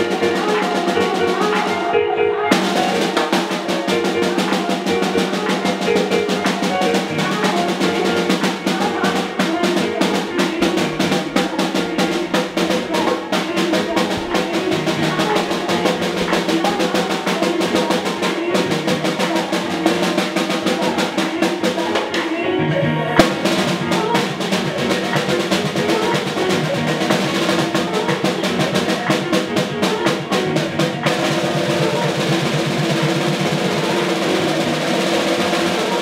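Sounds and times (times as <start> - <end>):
music with snare drum rolls: 0.0 - 22.5, 23.2 - 36.0.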